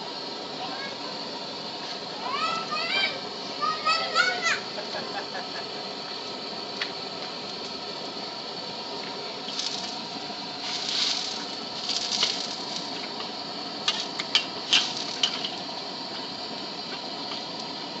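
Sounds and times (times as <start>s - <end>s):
steady cooking hiss: 0.0s - 18.0s.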